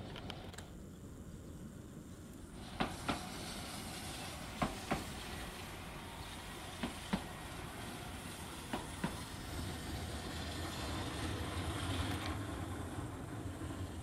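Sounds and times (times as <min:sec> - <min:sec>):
tram wheels clicking over rail joint: 0:02.6 - 0:14.0.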